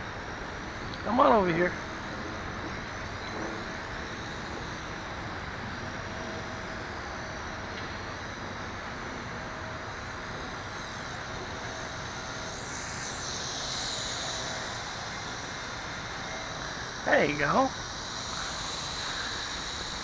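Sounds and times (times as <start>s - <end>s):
quadcopter motors whining: 0.0s - 20.0s
steady rushing noise: 0.0s - 20.0s.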